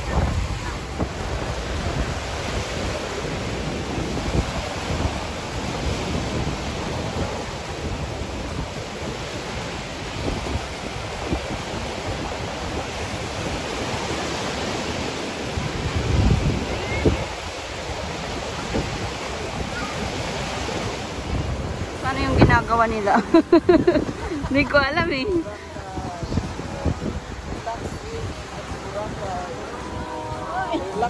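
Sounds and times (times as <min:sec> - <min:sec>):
sea waves breaking on rocks: 0:00.0 - 0:31.0
wind buffeting microphone: 0:00.0 - 0:31.0.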